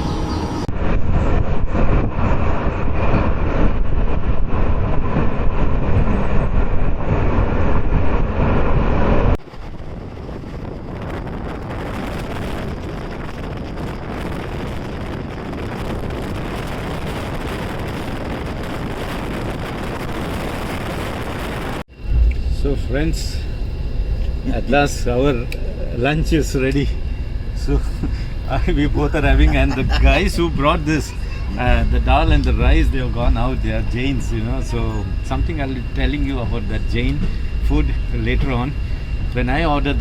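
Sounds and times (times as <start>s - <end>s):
train rumbling along track: 0.0s - 40.0s
wind buffeting microphone: 0.0s - 40.0s.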